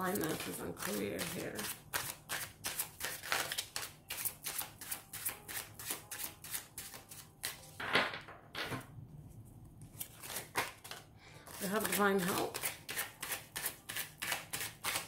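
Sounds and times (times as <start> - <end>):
cards being shuffled: 0.0 - 7.8, 9.9 - 15.0.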